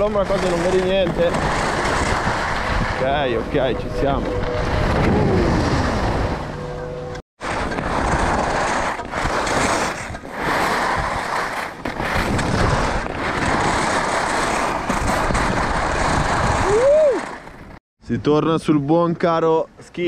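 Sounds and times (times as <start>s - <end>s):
skis scraping over snow: 0.0s - 6.6s, 7.4s - 17.8s
wind rushing over microphone: 0.0s - 6.6s, 7.4s - 17.8s.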